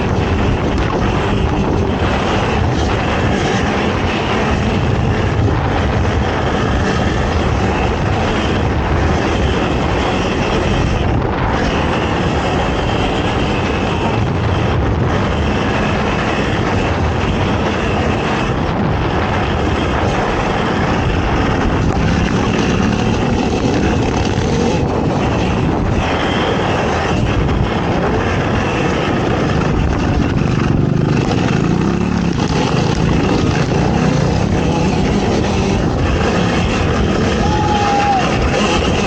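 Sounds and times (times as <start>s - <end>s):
atv engine racing: 0.0s - 39.0s.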